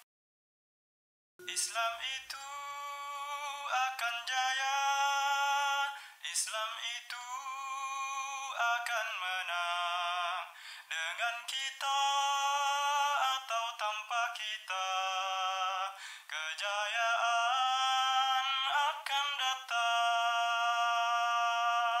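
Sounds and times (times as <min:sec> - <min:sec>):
person singing without words: 0:01.4 - 0:22.0.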